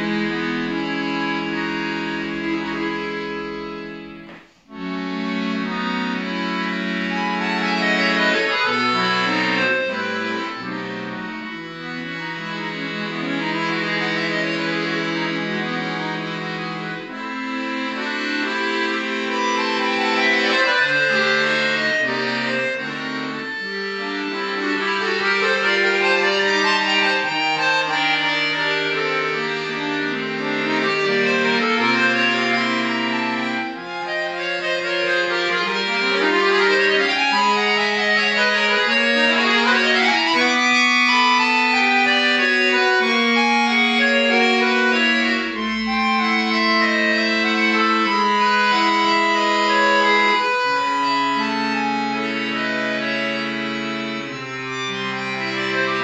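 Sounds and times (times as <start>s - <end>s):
solo piano accordion: 0.0s - 56.0s.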